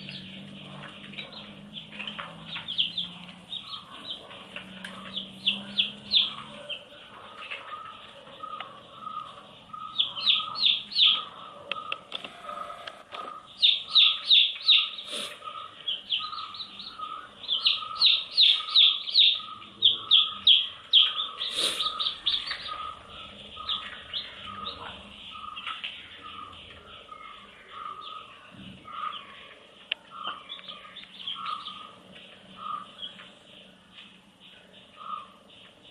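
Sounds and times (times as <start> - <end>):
chicks peeping: 0.0 - 35.9.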